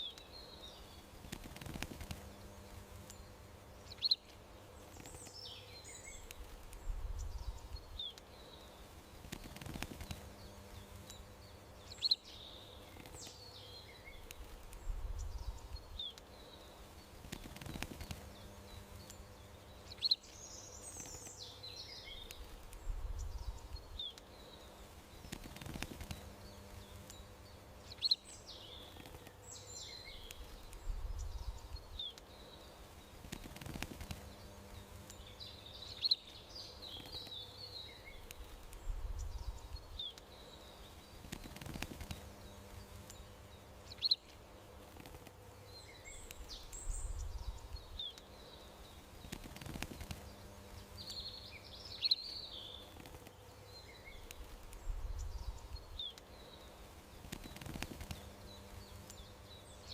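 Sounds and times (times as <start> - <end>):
faint steady hum: 0.0 - 59.9
small birds chirping: 0.0 - 59.9.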